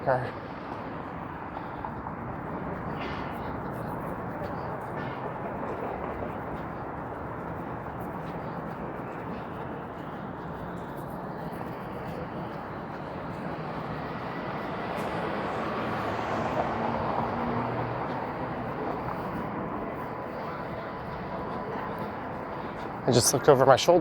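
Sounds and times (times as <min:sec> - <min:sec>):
hum of passing vehicles: 0:00.0 - 0:24.0.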